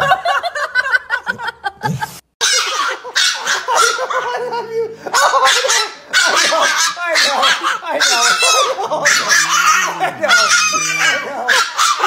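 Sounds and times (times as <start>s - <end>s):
people laughing: 0.0s - 11.6s.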